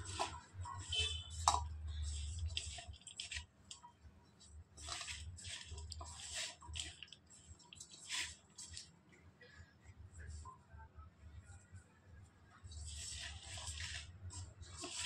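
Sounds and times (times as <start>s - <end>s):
wet squishing of batter mixing: 0.0s - 10.4s, 12.5s - 15.0s.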